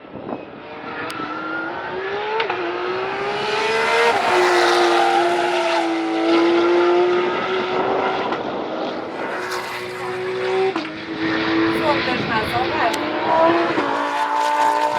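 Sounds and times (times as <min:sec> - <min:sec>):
race car engine accelerating: 0:00.6 - 0:14.9.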